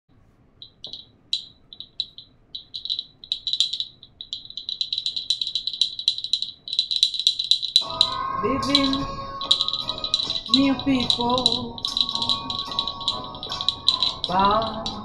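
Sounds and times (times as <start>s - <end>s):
wooden bird call chirps: 0.6s - 15.0s.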